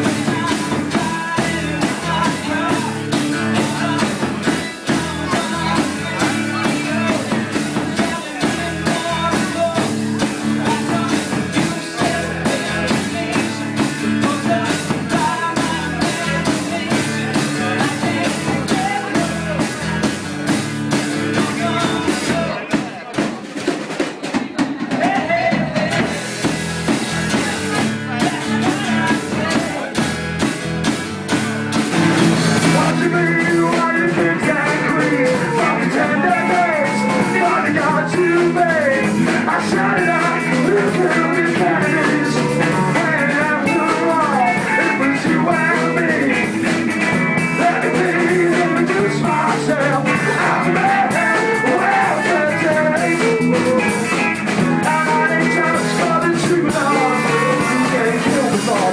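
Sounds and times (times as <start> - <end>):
electric guitar: 0.0 - 22.6, 25.8 - 58.9
person singing: 0.0 - 23.2, 24.8 - 30.1, 31.9 - 58.9
live rock band playing: 0.0 - 58.9.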